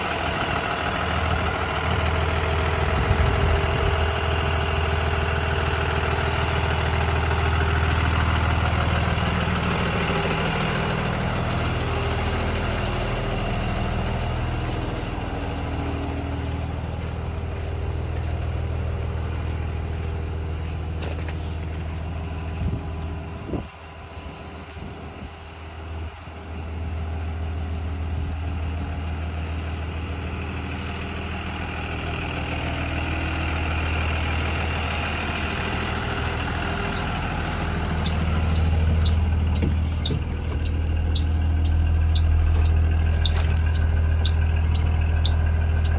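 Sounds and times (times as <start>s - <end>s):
bus engine idling: 0.0s - 45.9s.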